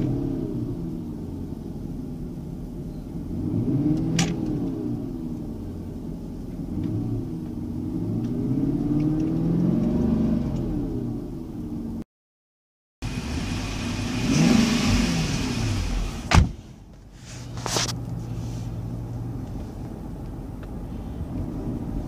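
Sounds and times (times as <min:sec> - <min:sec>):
car engine starting and idling: 0:00.0 - 0:12.0, 0:13.0 - 0:22.0.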